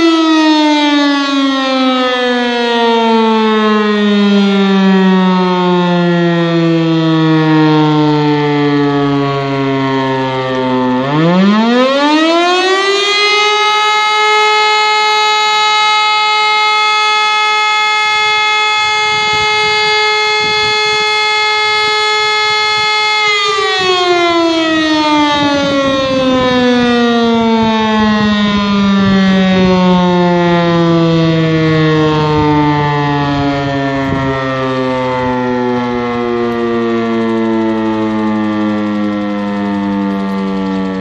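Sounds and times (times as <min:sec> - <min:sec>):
motor siren wailing: 0:00.0 - 0:41.0.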